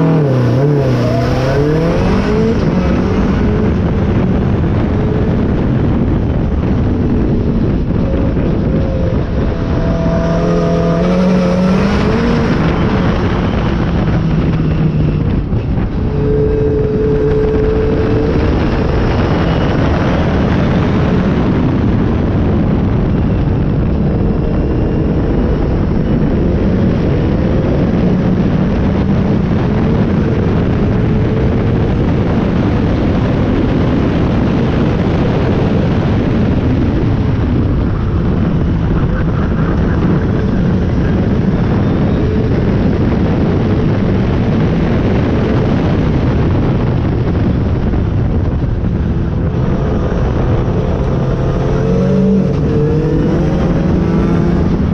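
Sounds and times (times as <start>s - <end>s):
car engine and exhaust: 0.0s - 54.9s
wind buffeting camera: 0.0s - 54.9s.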